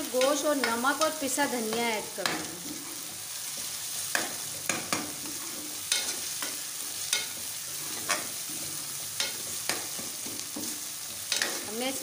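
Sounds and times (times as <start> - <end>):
onions sizzling in oil: 0.0 - 12.0
metal spoon scraping pan: 0.1 - 11.7.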